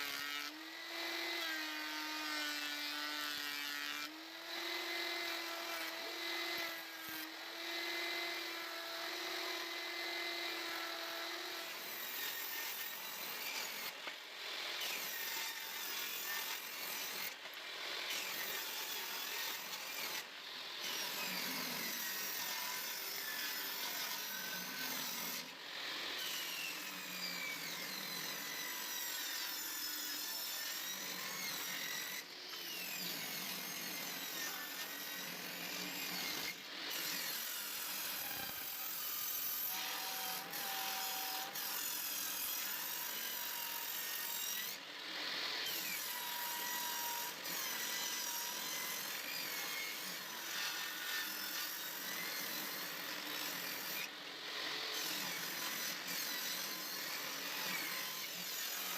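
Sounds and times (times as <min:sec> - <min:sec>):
power tool motor whine: 0:00.0 - 0:58.9.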